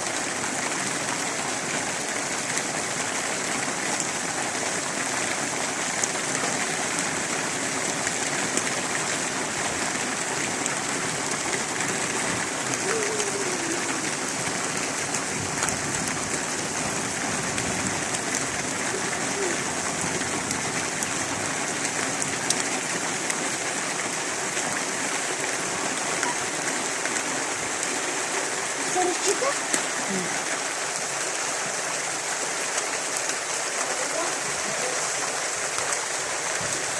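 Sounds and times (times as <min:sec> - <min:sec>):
heavy rain hiss: 0:00.0 - 0:36.9.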